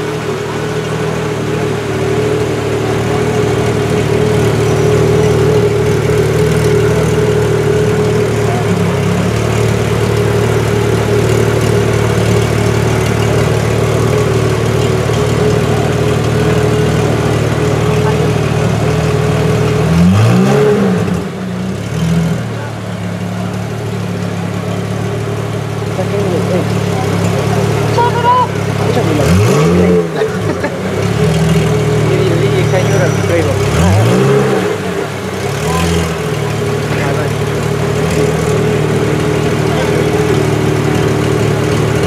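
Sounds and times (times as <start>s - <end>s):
car engine idling: 0.0s - 42.0s
engine revving: 0.0s - 42.0s.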